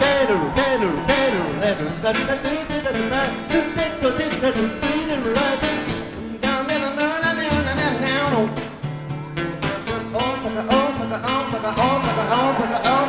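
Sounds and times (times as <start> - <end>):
lead acoustic guitar: 0.0 - 13.0
plucked guitar accompaniment: 0.0 - 13.0.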